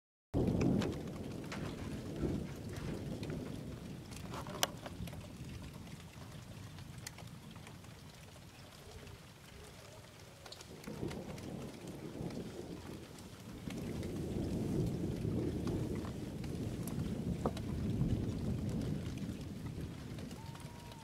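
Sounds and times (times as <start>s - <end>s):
thunder rumble: 0.4s - 8.1s, 10.7s - 21.0s
rain falling: 0.4s - 21.0s
raindrops ticking: 0.4s - 21.0s.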